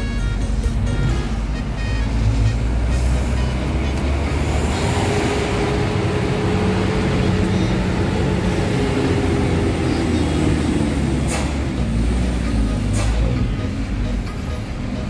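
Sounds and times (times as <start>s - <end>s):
truck engine running inside cab: 0.0s - 15.0s.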